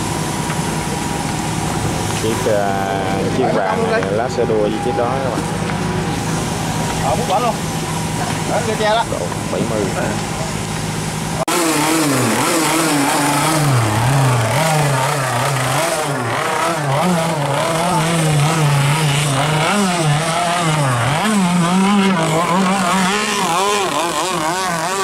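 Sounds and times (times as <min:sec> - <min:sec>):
speedboat engines running hard: 0:00.0 - 0:25.0.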